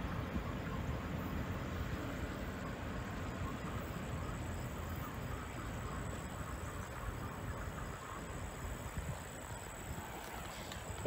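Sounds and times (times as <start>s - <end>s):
distant diesel locomotive rumble: 0.0s - 11.0s.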